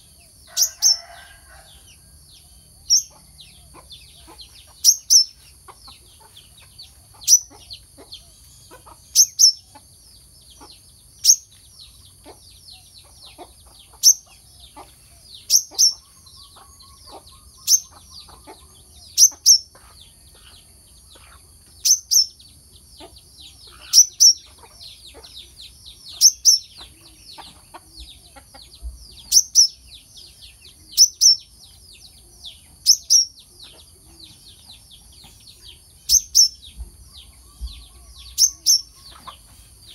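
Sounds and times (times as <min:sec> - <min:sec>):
bird chip calls: 0:02.8 - 0:09.9, 0:10.5 - 0:39.9.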